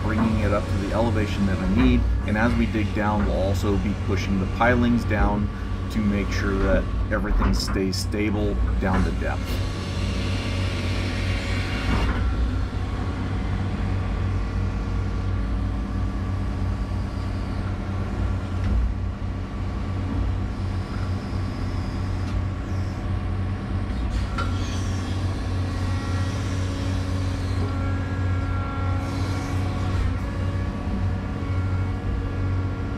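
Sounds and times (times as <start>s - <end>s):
excavator diesel engine droning: 0.0s - 32.9s
steady machine tones: 0.0s - 32.9s.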